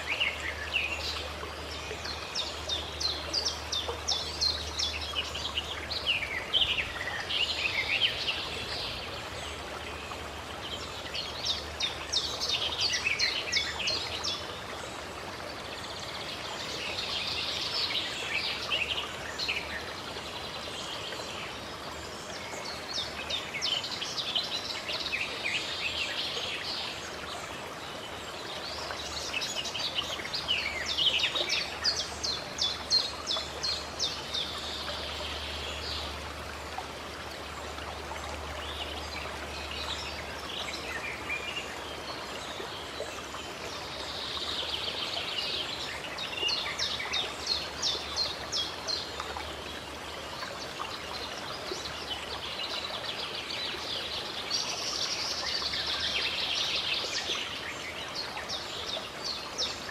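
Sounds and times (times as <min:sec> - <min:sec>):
songbirds singing: 0:00.0 - 0:59.9
stream running: 0:00.0 - 0:59.9.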